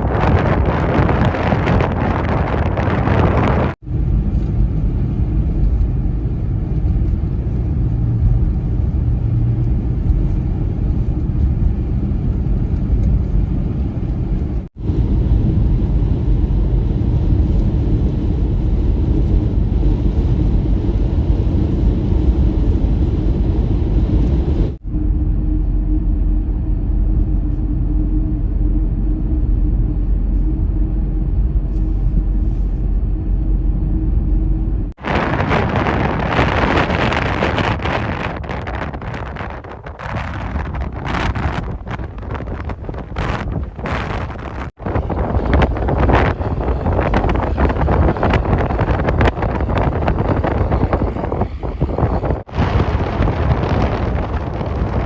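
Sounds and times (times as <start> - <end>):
steady low hum: 0.0 - 55.0
wind buffeting microphone: 0.0 - 55.0.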